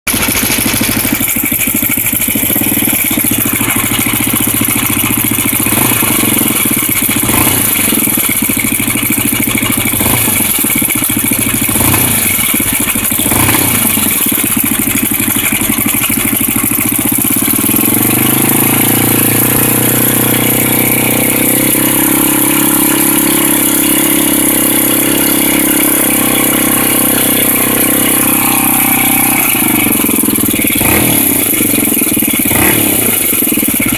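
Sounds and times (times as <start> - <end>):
motorcycle engine idling with rattle: 0.0 - 33.9.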